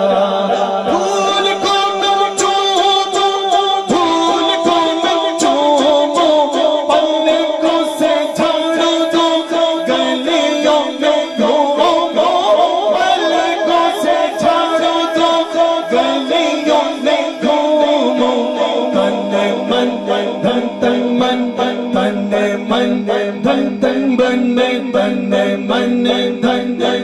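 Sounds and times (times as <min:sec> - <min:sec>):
man singing through a microphone: 0:00.0 - 0:27.0
fast rhythmic beat: 0:00.9 - 0:27.0.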